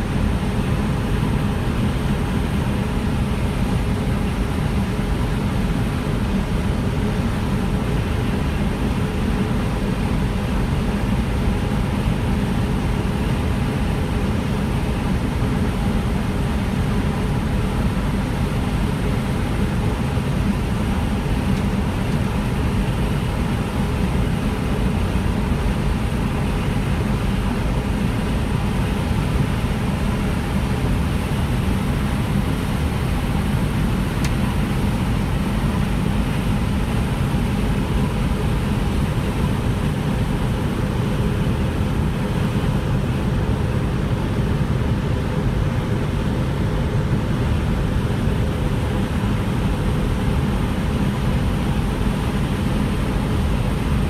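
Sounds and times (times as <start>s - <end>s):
heavy engine drone: 0.0s - 54.0s.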